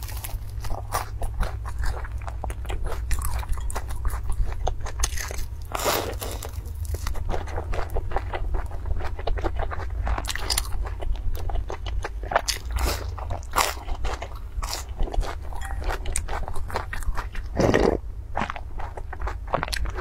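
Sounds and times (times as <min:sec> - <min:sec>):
biting and chewing fried dough: 0:00.0 - 0:20.0
steady low hum: 0:00.0 - 0:20.0.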